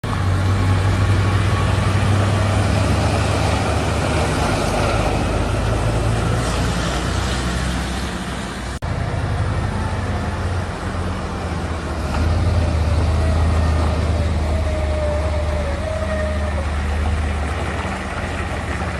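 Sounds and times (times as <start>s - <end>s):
diesel engine humming: 0.0s - 18.9s.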